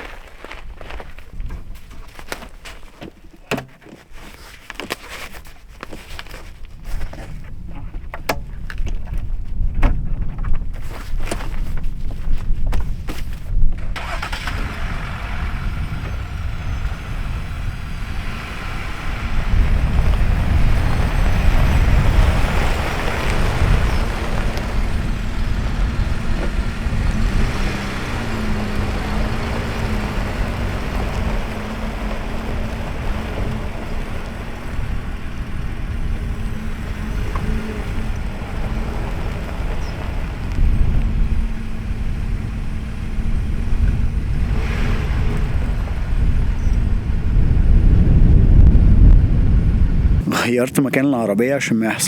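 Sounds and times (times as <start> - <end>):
wind rumble on microphone: 0.0 - 2.8, 5.5 - 50.2
car engine humming: 0.0 - 50.6.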